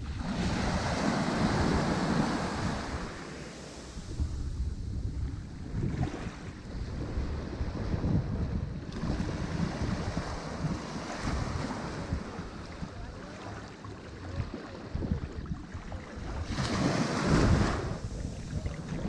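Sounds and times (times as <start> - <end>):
low wind-like rumble: 0.0 - 19.0
waves breaking: 0.0 - 19.0.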